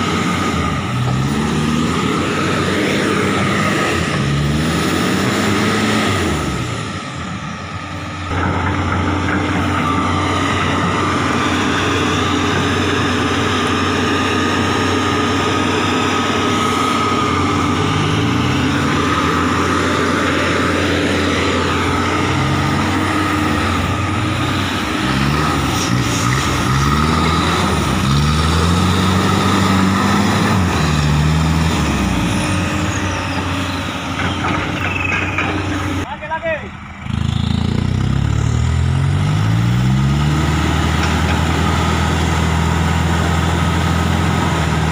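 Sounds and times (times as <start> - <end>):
engine revving under load: 0.0 - 36.1, 36.8 - 44.9
diesel excavator engine: 0.0 - 44.9.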